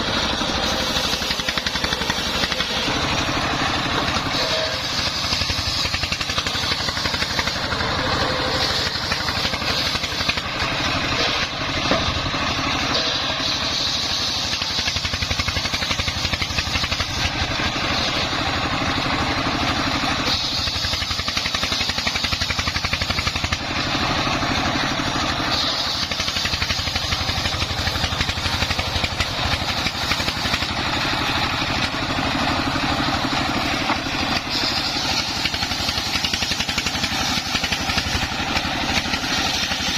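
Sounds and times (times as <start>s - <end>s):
circular saw cutting timber: 0.0s - 39.9s
diesel engine running under load: 0.0s - 39.9s.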